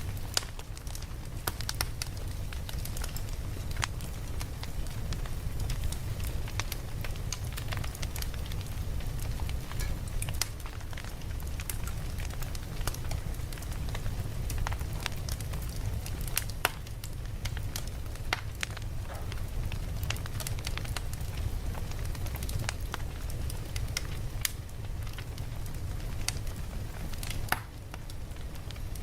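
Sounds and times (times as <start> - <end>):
campfire crackling and popping: 0.0 - 29.0
low rumble of fire: 0.0 - 29.0.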